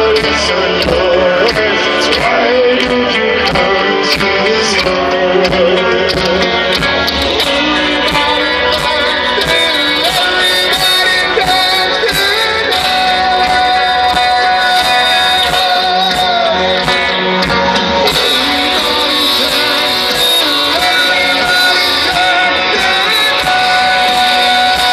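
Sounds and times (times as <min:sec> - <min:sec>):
drums with cymbal hits: 0:00.0 - 0:24.9
electric guitars: 0:00.0 - 0:24.9
person singing: 0:00.0 - 0:24.9.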